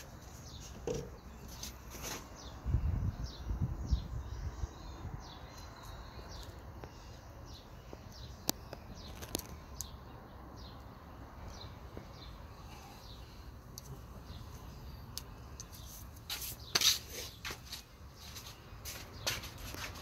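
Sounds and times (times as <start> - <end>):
small bird chirping: 0.0 - 20.0.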